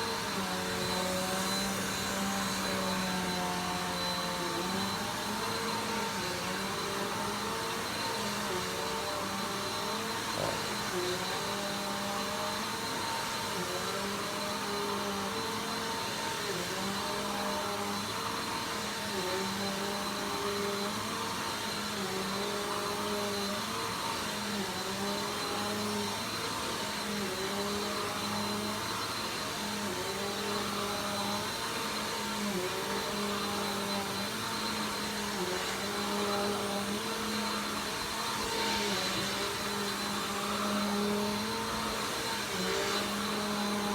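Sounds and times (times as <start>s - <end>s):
vacuum cleaner whining: 0.0s - 43.9s.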